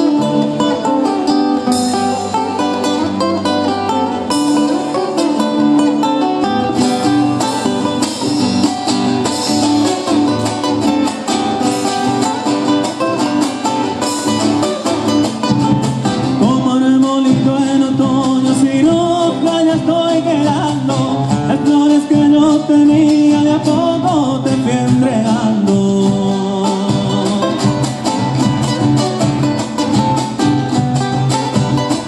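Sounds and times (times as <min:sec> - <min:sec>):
acoustic guitars playing folk: 0:00.0 - 0:32.0.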